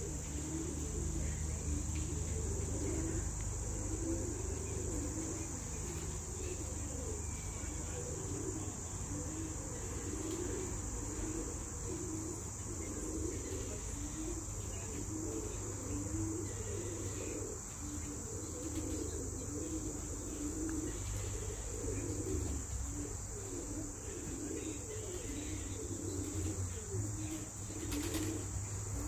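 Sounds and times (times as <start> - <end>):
high-pitched insect chorus: 0.0 - 29.0
low wavering calls: 0.0 - 29.0.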